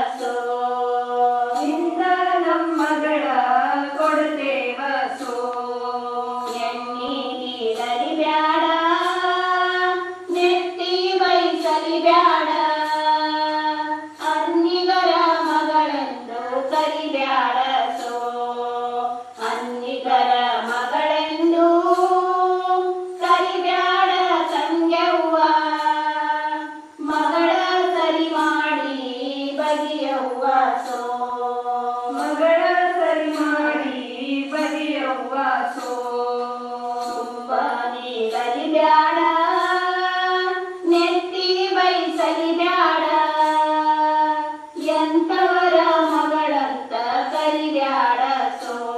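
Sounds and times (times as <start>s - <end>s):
women singing folk song: 0.0s - 48.9s.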